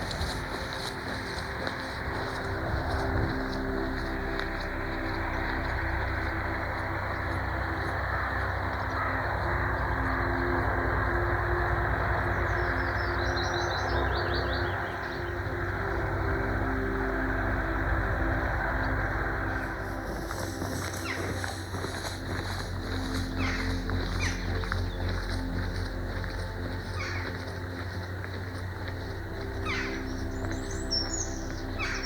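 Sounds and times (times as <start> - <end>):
low rumble with hum: 0.0 - 32.0.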